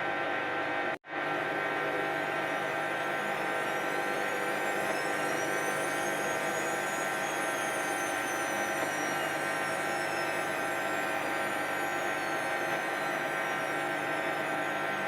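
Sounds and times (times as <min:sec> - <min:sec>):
washing machine spinning: 0:01.2 - 0:15.0.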